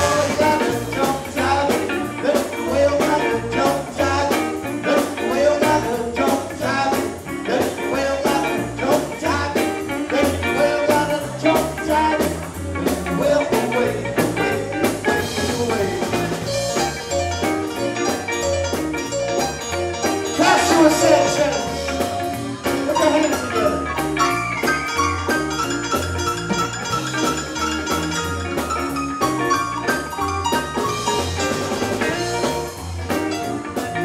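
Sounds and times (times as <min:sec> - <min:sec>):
drum kit steady beat: 0:00.0 - 0:34.0
electric bass: 0:00.0 - 0:34.0
keyboard: 0:00.0 - 0:34.0
soul band playing: 0:00.0 - 0:34.0.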